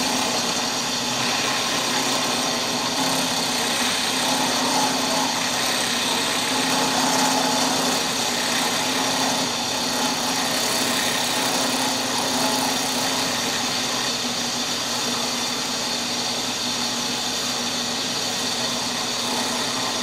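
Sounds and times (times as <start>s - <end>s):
drill press cutting wood: 0.0s - 20.0s.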